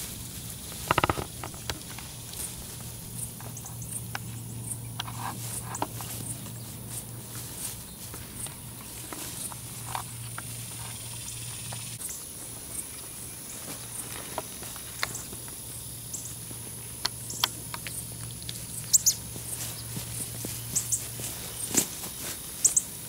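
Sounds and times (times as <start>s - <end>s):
armadillo snuffling in grass: 0.0s - 23.0s.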